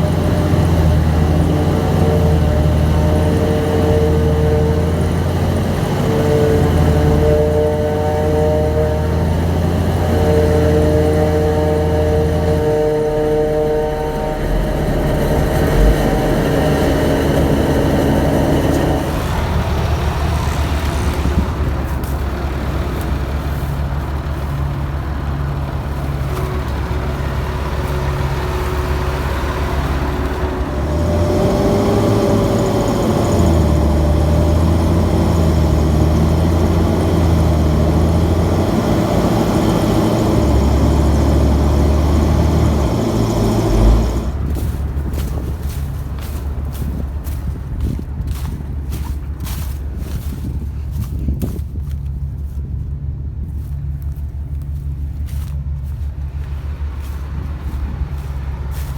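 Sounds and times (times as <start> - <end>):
heavy diesel engines under load: 0.0 - 58.9.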